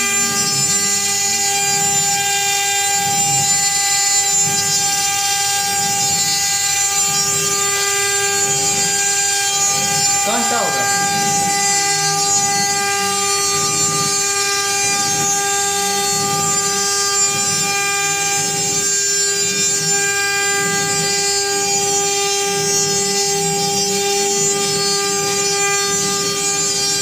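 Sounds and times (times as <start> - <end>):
machine high whine: 0.0 - 27.0.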